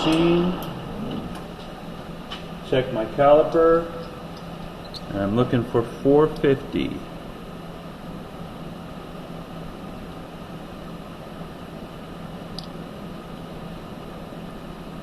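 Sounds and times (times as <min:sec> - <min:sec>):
workshop hum and hiss: 0:00.0 - 0:15.0.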